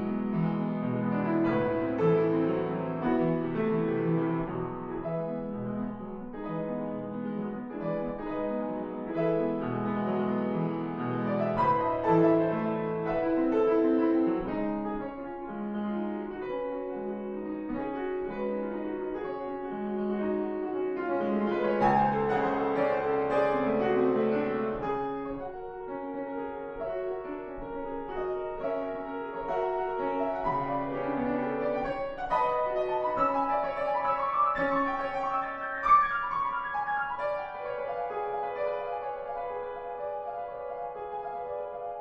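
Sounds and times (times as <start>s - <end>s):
classical piano music: 0.0s - 42.0s.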